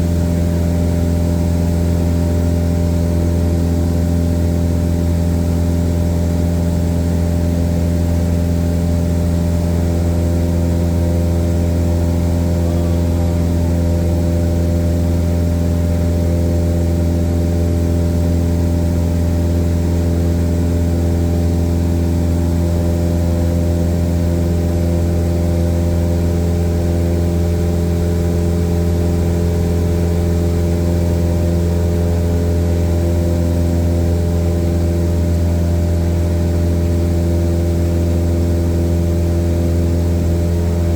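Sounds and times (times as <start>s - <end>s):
airplane engine and propeller droning: 0.0s - 40.9s.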